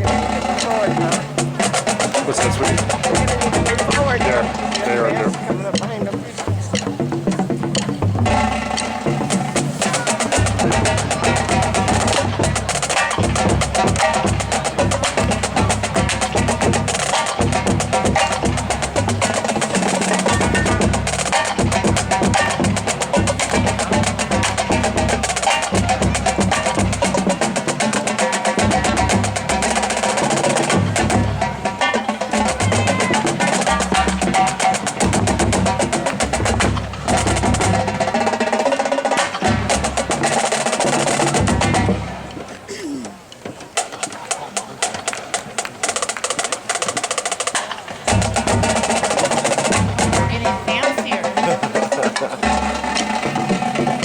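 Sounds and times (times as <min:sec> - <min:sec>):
low drum tones: 0:00.0 - 0:54.0
snare drum rhythm: 0:00.0 - 0:54.0.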